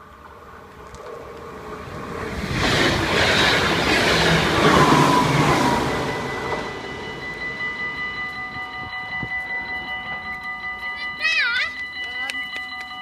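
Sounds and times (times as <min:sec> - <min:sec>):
electric train passing: 0:00.0 - 0:13.0
train whine: 0:00.0 - 0:13.0.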